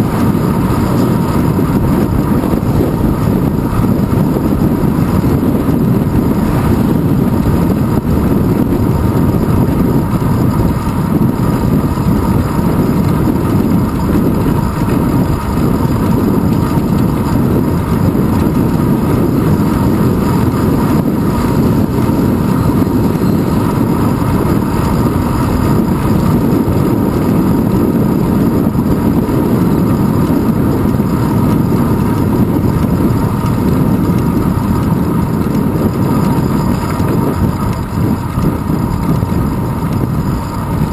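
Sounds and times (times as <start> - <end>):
faint steady whine: 0.0 - 40.9
road rumble: 0.0 - 40.9
wind buffeting: 0.0 - 40.9.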